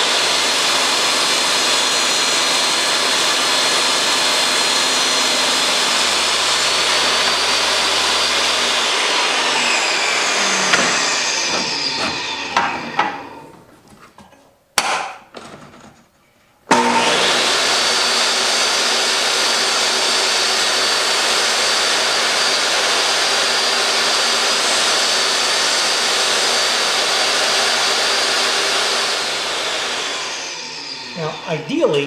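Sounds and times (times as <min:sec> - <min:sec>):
table saw ripping wood: 0:00.0 - 0:13.8, 0:16.7 - 0:32.0.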